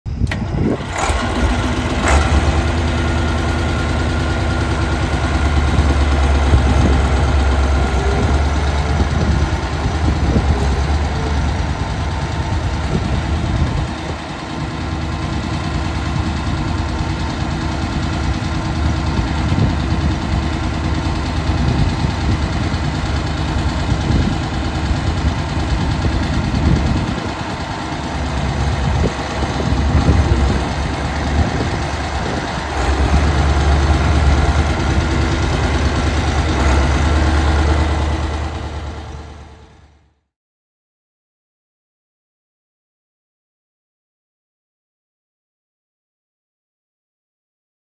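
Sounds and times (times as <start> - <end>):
tractor diesel engine rumble: 0.1 - 40.1.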